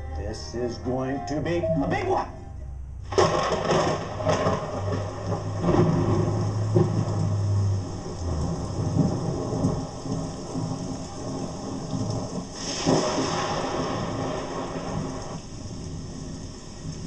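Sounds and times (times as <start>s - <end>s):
rain: 3.0s - 17.0s
thunder rumbling and cracking: 3.0s - 17.0s.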